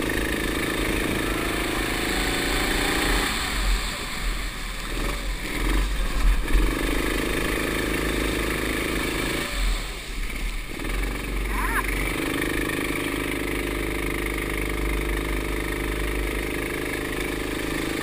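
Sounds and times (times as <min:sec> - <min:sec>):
go-kart engine: 0:00.0 - 0:18.0.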